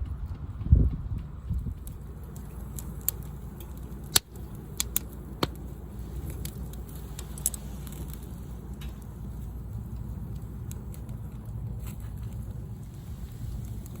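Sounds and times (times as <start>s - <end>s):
wood campfire crackling: 1.2s - 14.0s.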